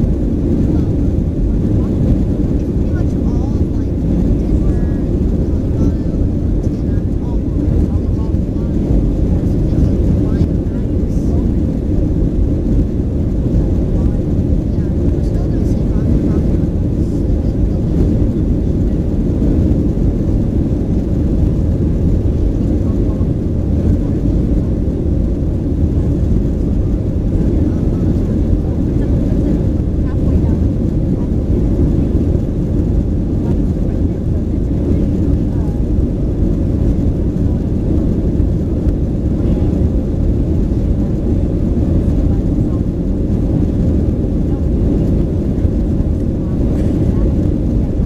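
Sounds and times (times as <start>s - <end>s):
airplane cabin engine rumble: 0.0s - 48.0s.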